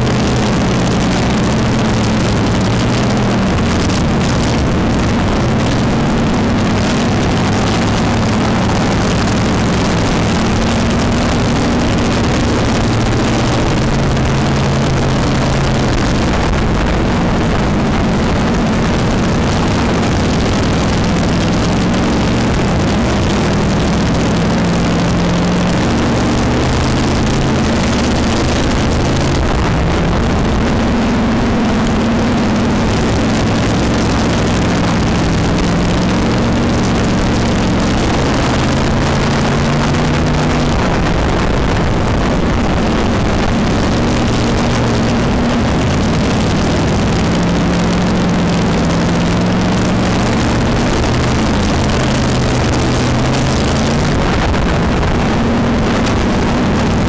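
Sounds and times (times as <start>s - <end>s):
race car engine running hard: 0.0s - 57.0s
wind and track noise: 0.0s - 57.0s.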